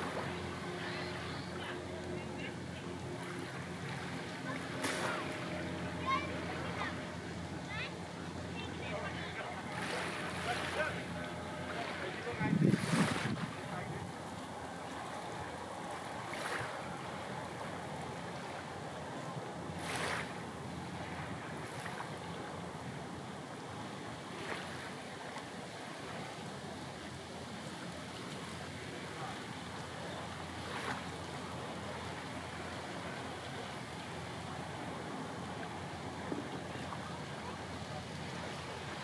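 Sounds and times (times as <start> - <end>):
sea rushing: 0.0 - 39.0
small waves splashing: 0.0 - 39.0
wind: 0.0 - 39.0.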